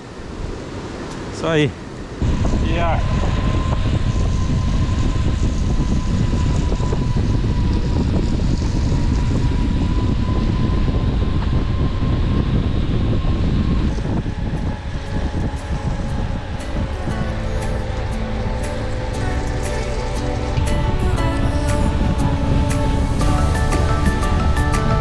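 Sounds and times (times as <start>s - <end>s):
bicycle road noise: 0.0s - 25.0s
wind buffeting microphone: 0.0s - 25.0s.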